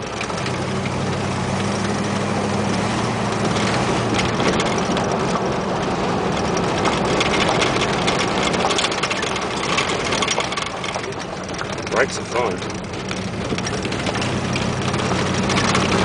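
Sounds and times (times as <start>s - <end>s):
car engine hum: 0.0s - 16.0s
tyre and road noise: 0.0s - 16.0s
light clicks and rattles: 2.6s - 16.0s.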